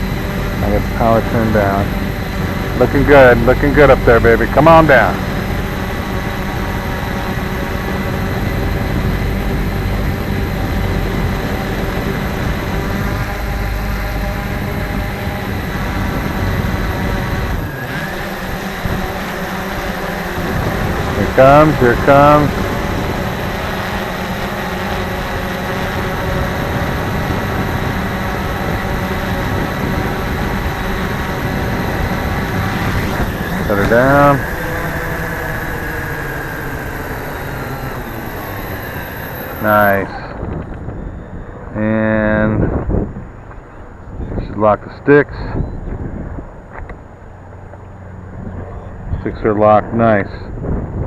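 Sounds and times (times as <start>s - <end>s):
drone propellers whining: 0.0s - 51.0s
wind rumbling on microphone: 0.0s - 51.0s.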